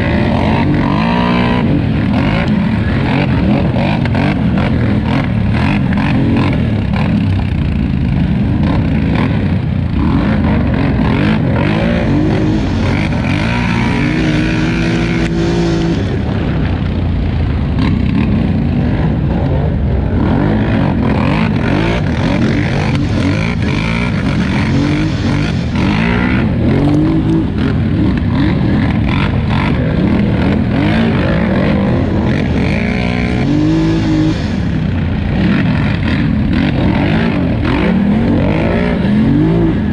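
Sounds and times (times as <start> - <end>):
atv engine revving: 0.0 - 39.9
wind rumble: 0.0 - 39.9.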